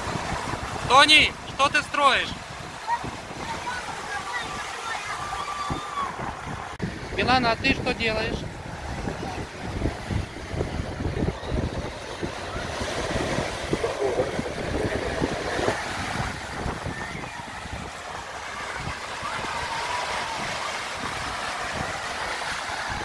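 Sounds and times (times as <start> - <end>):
steady hiss of sea: 0.0 - 23.0
wind buffeting microphone: 0.0 - 23.0
faint voices: 2.8 - 22.5.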